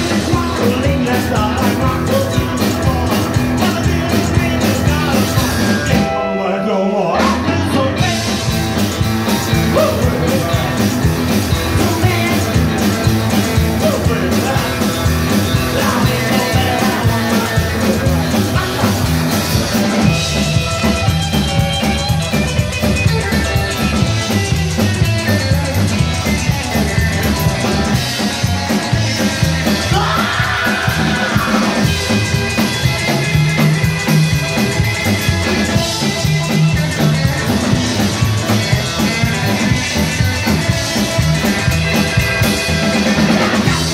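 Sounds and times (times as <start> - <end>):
rockabilly band playing: 0.0 - 43.9.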